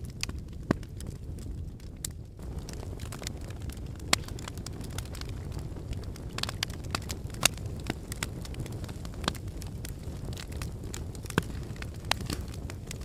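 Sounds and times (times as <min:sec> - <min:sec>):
fire flame rushing: 0:00.0 - 0:13.0
logs crackling and popping: 0:00.0 - 0:13.0.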